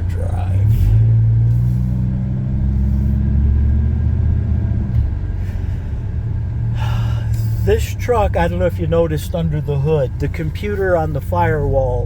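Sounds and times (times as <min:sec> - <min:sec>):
truck engine driving off: 0:00.0 - 0:12.0.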